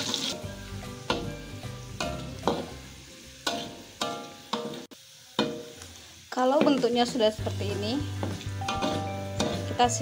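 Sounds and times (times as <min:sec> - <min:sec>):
gentle background music: 0:00.0 - 0:04.8, 0:06.7 - 0:10.0
shallots sizzling in oil: 0:00.0 - 0:10.0.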